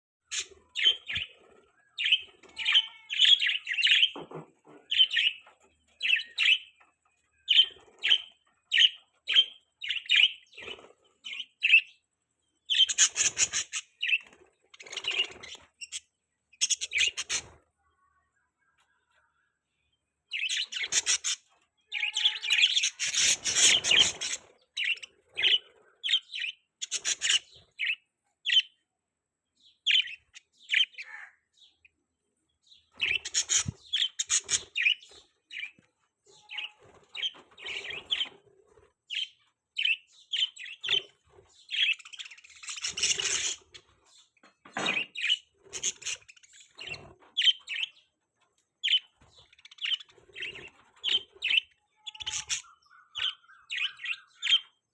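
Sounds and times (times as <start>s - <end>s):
budgerigars chirping and warbling: 0.2s - 17.8s, 20.3s - 28.8s, 29.6s - 32.0s, 32.6s - 54.9s.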